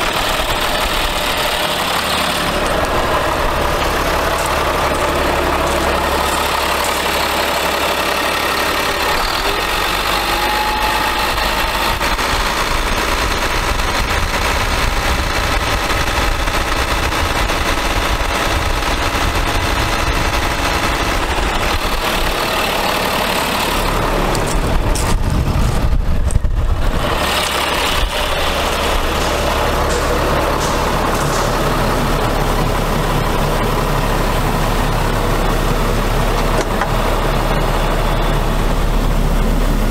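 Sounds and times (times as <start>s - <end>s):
low rumble: 0.0s - 8.0s, 8.6s - 36.4s
diesel engine idling: 0.0s - 39.9s.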